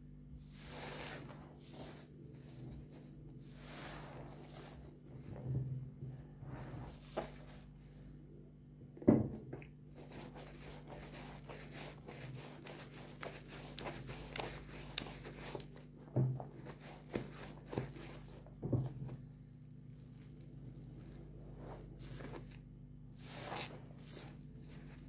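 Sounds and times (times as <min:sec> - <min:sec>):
sponge squishing in soapy water: 0:00.4 - 0:05.5, 0:09.6 - 0:25.0.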